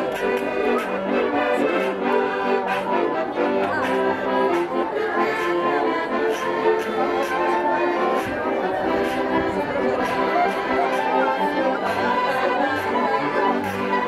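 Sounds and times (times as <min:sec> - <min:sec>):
folk band with fiddles and bass: 0:00.0 - 0:14.0.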